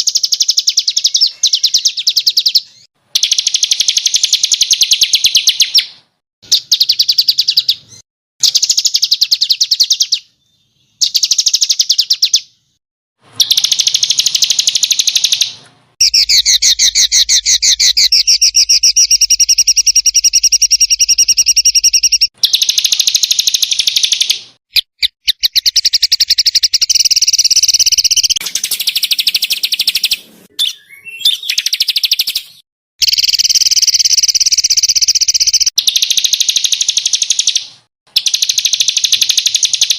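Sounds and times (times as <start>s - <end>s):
songbirds singing harsh trills: 0.0s - 39.9s.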